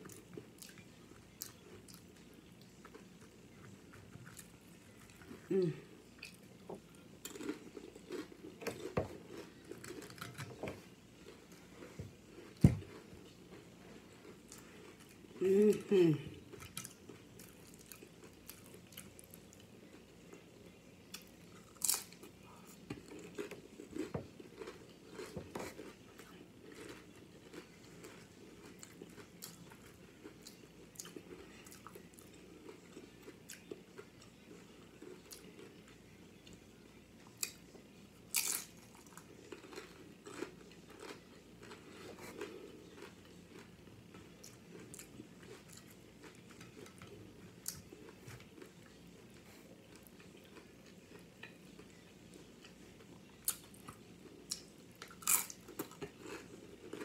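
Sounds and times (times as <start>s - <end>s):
person chewing crunchy nachos: 0.0s - 36.6s, 37.2s - 57.0s.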